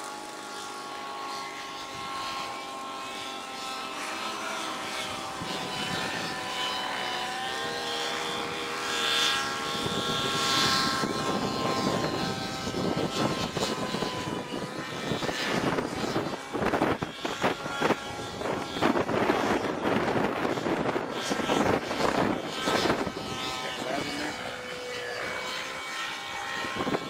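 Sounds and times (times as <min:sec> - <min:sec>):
model plane motor whine: 0:00.0 - 0:27.0
wind buffeting microphone: 0:03.4 - 0:27.0.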